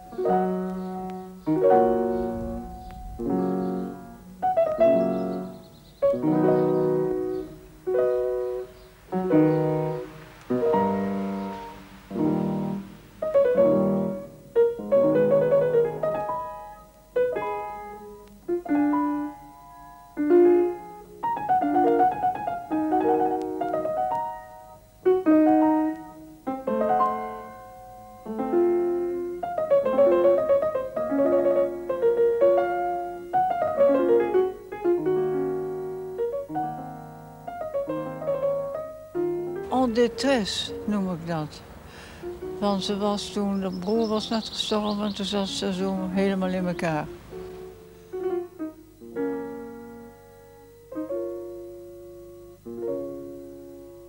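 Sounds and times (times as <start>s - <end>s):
slow solo piano: 0.0s - 54.0s.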